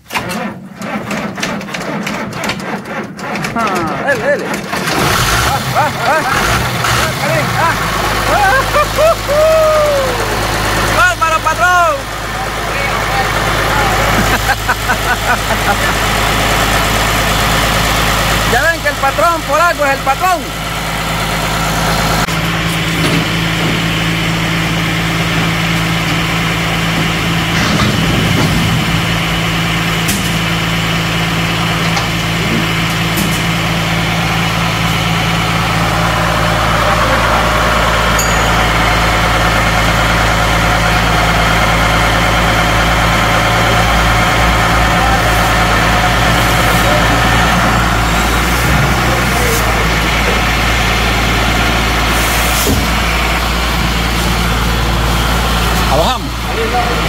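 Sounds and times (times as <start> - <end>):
tractor diesel engine idling: 1.6 - 57.0.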